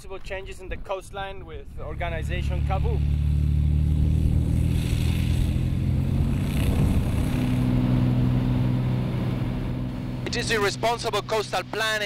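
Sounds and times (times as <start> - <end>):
light aircraft engine running: 1.6 - 12.0.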